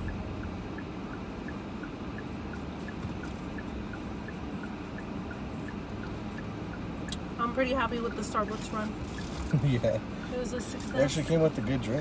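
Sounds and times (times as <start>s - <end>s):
car road and engine noise: 0.0s - 12.0s
turn signal ticking: 0.0s - 12.0s.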